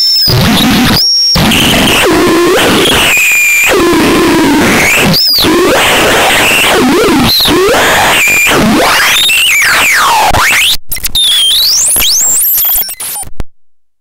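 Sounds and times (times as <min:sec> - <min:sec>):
harsh electronic noise with pitch glides: 0:00.0 - 0:13.3.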